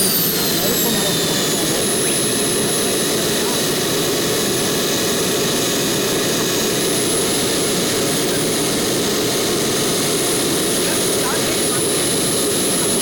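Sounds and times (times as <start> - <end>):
model jet turbine whining: 0.0 - 13.0.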